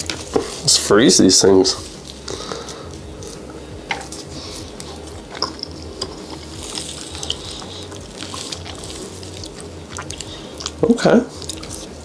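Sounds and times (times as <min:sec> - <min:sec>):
spoon scraping frozen dessert: 0:02.0 - 0:12.0.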